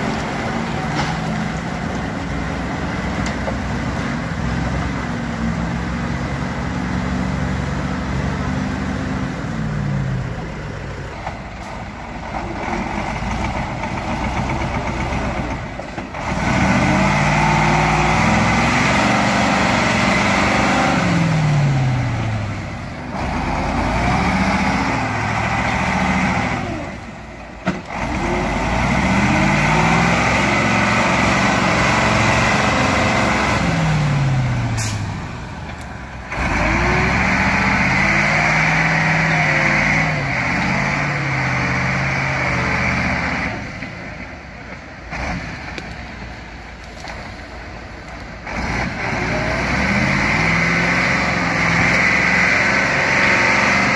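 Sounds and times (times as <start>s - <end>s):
truck diesel engine revving: 0.0s - 53.9s.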